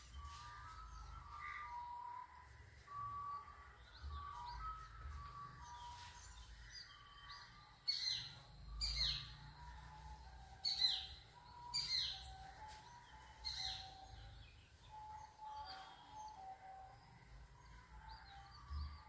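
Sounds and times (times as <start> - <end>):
birds whistling: 0.0 - 17.1.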